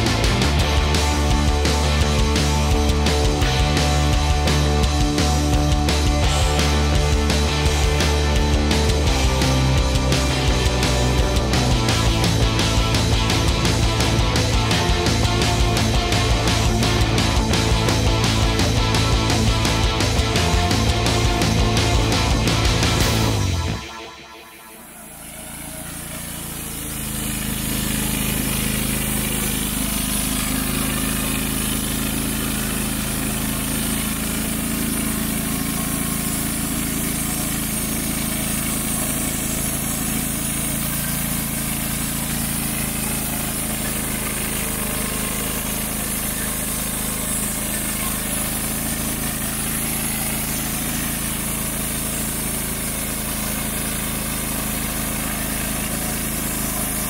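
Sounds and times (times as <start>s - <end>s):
band sawmill cutting log: 0.0s - 57.0s.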